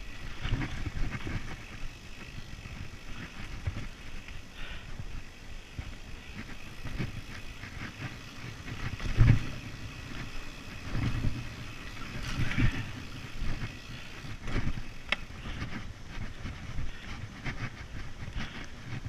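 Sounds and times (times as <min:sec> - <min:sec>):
bike ride rumble: 0:00.0 - 0:19.0.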